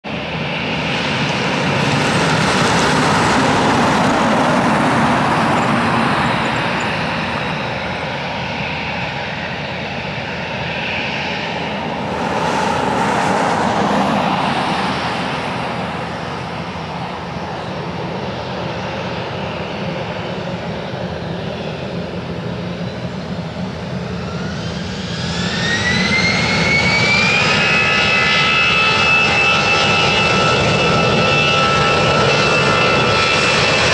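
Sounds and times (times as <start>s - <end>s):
jet engines spooling up: 0.1s - 33.9s.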